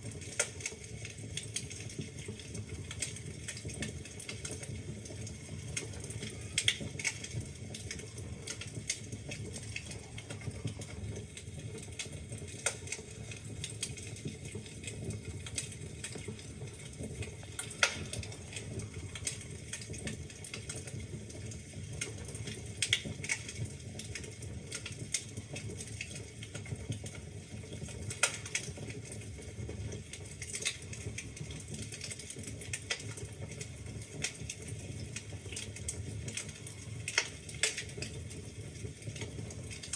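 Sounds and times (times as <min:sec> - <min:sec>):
fire rumbling: 0:00.0 - 0:39.9
logs crackling and popping: 0:00.0 - 0:39.9.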